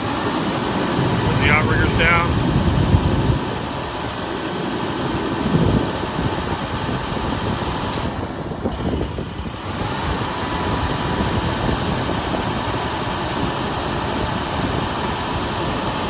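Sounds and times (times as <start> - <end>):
diesel truck engine running: 0.0 - 16.0
hydraulic whine: 0.0 - 16.0.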